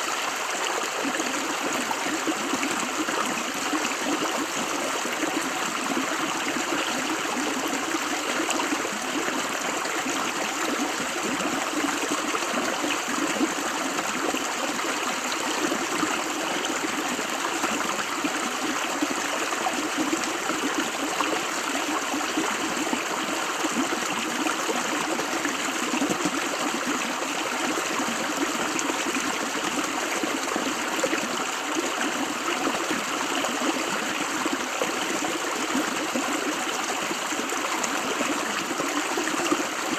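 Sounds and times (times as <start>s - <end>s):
stream water rushing and burbling: 0.0s - 39.9s.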